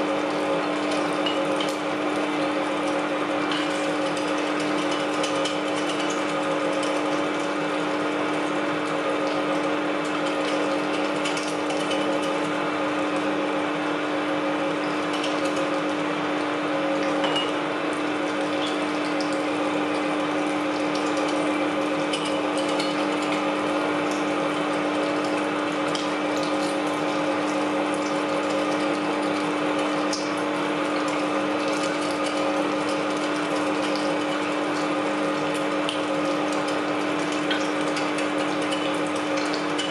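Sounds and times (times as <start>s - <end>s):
electric meat grinder humming: 0.0s - 39.9s.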